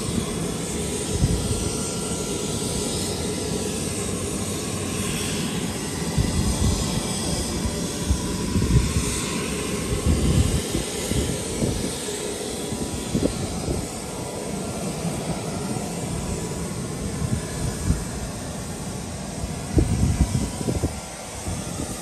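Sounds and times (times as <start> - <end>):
wind buffeting microphone: 0.0 - 3.2, 4.1 - 22.0
distant aircraft engine drone: 0.0 - 22.0.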